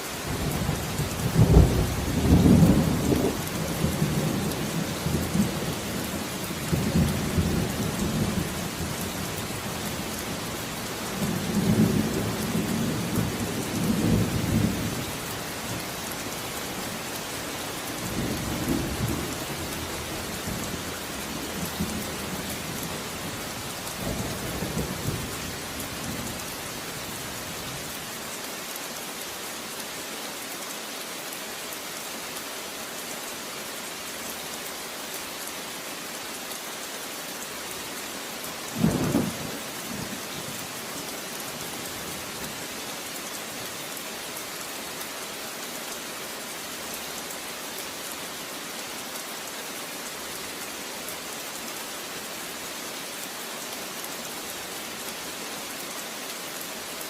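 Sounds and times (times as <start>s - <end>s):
rain hissing: 0.0s - 57.0s.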